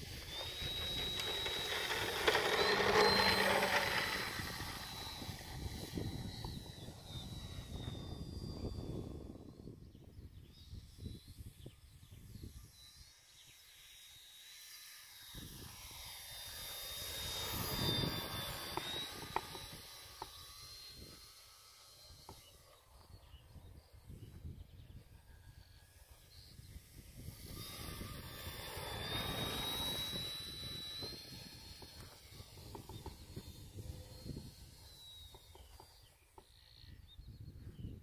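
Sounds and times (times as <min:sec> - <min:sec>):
model aeroplane whine flying past: 0:00.0 - 0:38.0.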